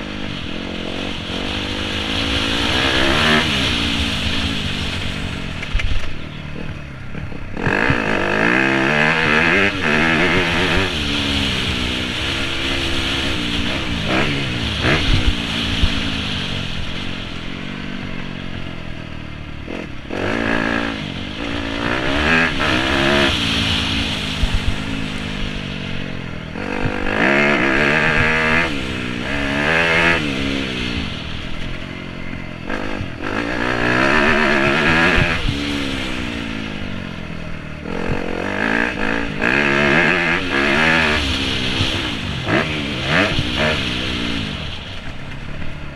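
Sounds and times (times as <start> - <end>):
dirt bike engine revving: 0.0 - 18.8, 19.6 - 45.8.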